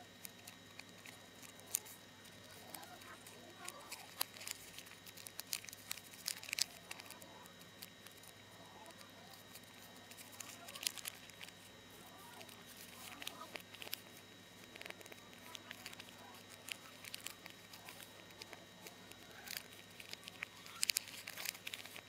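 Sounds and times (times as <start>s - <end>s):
paper crinkling and crackling: 0.0s - 22.0s.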